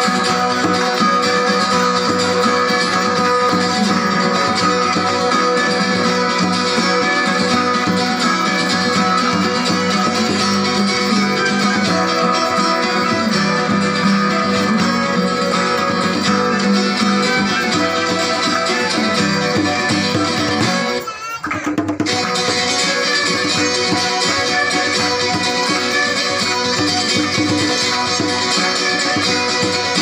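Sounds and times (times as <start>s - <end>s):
bowed violin: 0.0s - 30.0s
plucked guitar: 0.0s - 30.0s
strummed strings: 0.0s - 30.0s.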